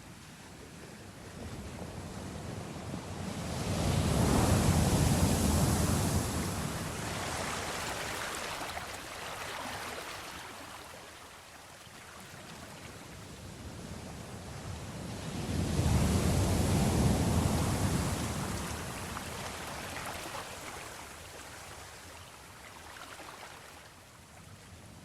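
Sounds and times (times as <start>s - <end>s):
ocean waves breaking: 0.7s - 23.9s.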